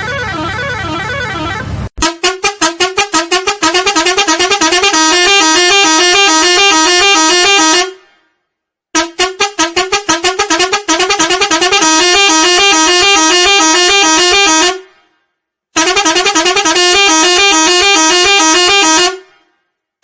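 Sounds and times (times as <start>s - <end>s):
multi-tone musical truck horn: 0.0s - 8.2s, 9.0s - 15.0s, 15.8s - 19.5s.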